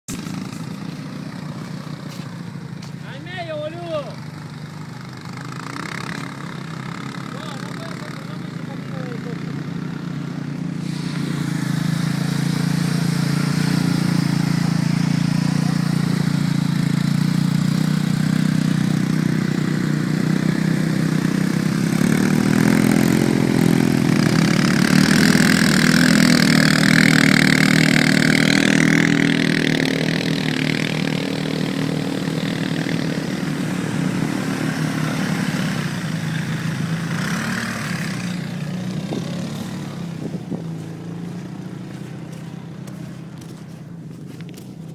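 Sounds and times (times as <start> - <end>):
atv engine running: 0.1 - 44.9.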